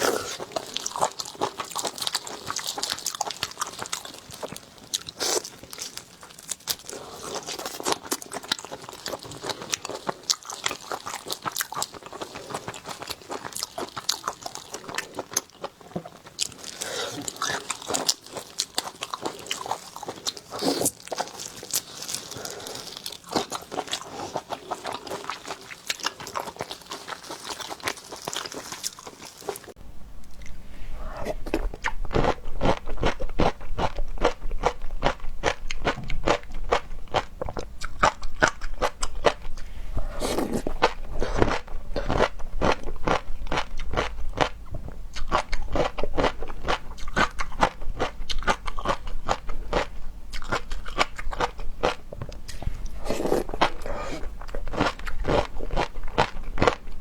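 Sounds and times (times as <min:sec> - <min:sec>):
crunching bites and wet chewing: 0:00.0 - 0:30.5, 0:31.3 - 0:56.9.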